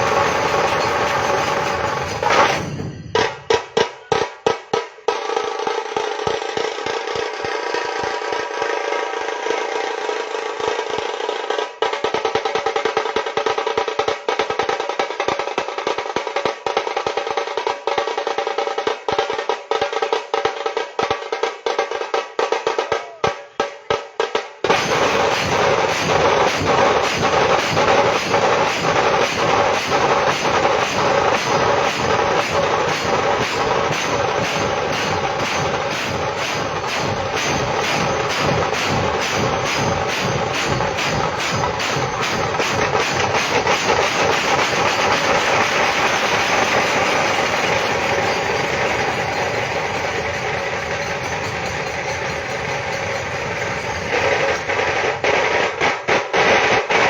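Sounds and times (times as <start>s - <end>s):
drumming with rapid rolls: 0.0s - 57.0s.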